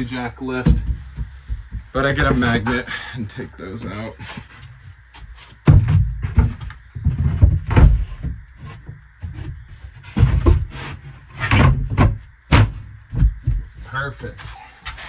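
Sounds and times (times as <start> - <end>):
wooden knocks and thumps: 0.0 - 3.0, 3.8 - 15.0.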